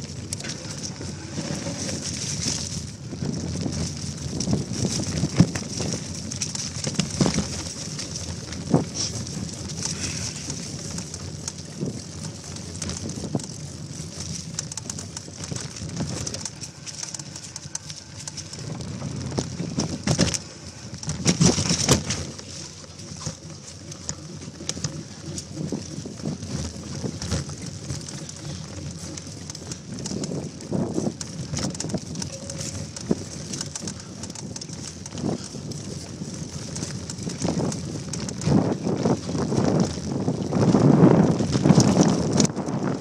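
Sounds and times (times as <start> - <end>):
bicycle frame and chain rattling: 0.0 - 43.0
bicycle tyres crunching through leaves: 0.0 - 43.0.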